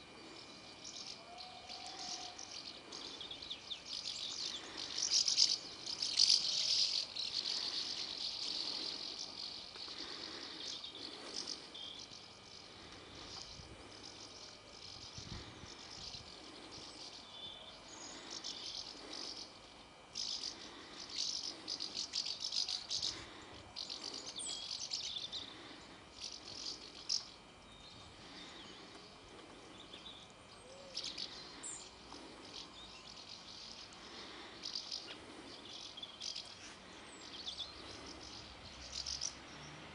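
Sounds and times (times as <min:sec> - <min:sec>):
martins twittering in flight: 0:00.0 - 0:39.9.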